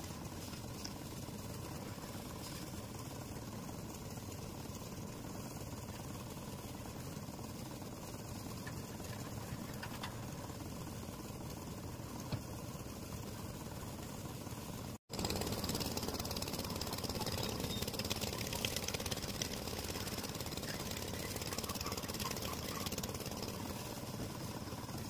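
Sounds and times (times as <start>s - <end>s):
concrete mixer running: 0.0s - 25.0s.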